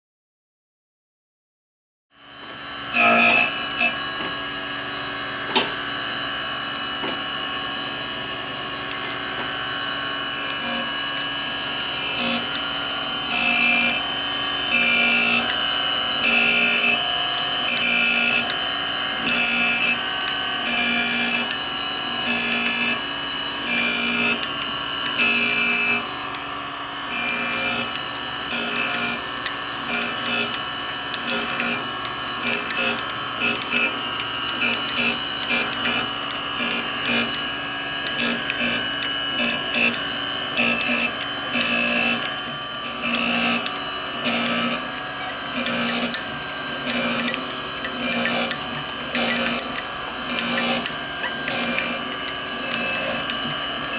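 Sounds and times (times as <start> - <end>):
surface grinder whine: 2.2 - 53.9
harsh grinding bursts: 2.8 - 53.9.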